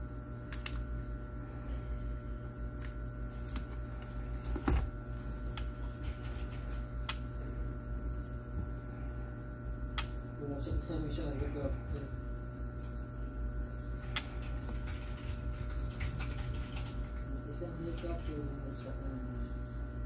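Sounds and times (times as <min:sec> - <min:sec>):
faint steady whine: 0:00.0 - 0:20.0
steady low hum: 0:00.0 - 0:20.0.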